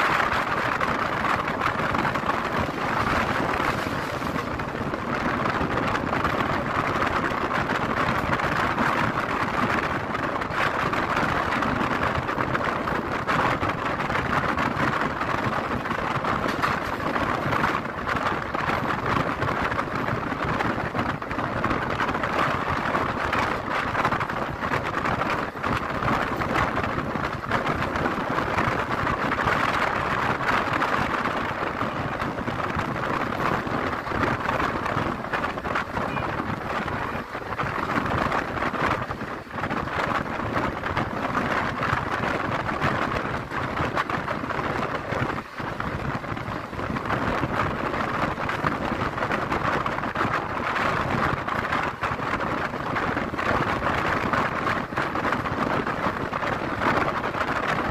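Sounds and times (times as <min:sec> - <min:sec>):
train wheel-on-rail noise: 0:00.0 - 0:57.9
wind rushing past: 0:00.0 - 0:57.9.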